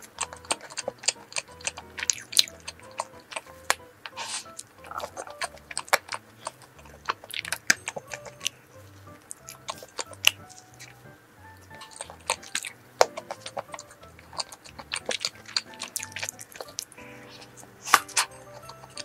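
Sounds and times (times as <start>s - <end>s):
background music: 0.0s - 19.0s
wet chewing mouth clicks: 0.0s - 19.0s.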